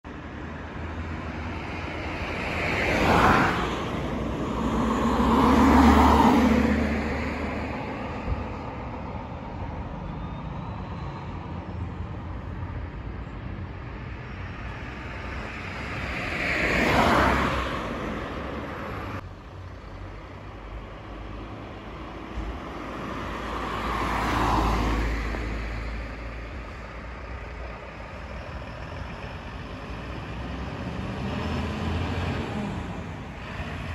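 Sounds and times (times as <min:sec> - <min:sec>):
vehicles passing by: 0:00.1 - 0:33.9.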